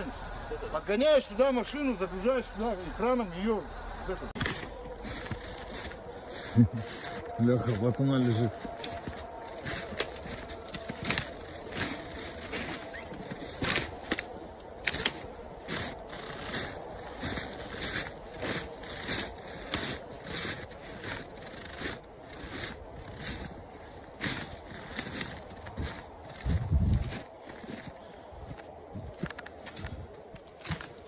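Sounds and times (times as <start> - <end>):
crunching footsteps: 0.0 - 31.0.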